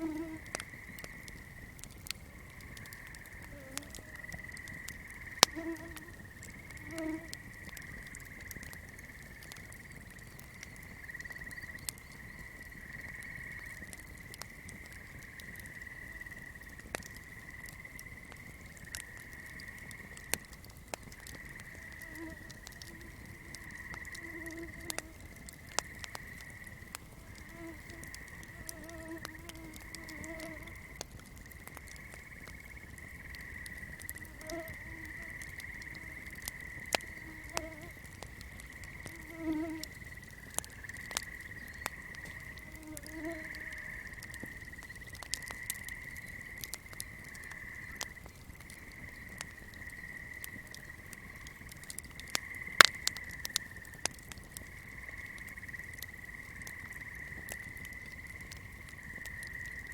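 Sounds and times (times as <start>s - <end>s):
low frog calls: 0.0s - 20.5s, 21.1s - 51.6s
candle popping and crackling: 0.0s - 59.9s.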